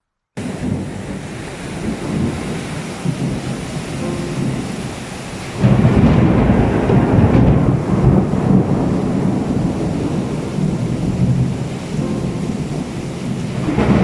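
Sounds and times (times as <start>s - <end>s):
rain downpour: 0.4s - 14.0s
thunder rumbling: 0.4s - 14.0s.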